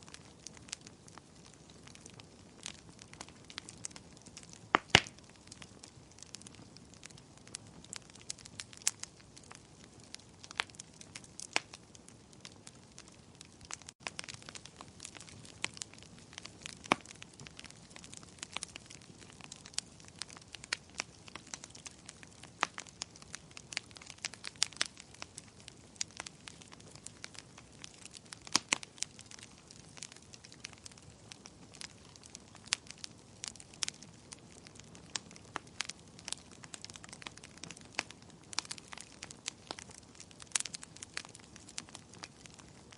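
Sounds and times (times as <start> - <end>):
fireplace fire crackling: 0.0 - 42.9.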